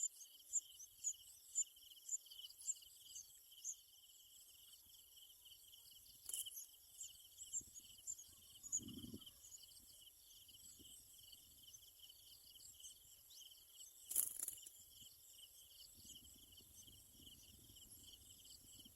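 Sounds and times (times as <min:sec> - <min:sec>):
insects chirping trill: 0:00.0 - 0:18.9.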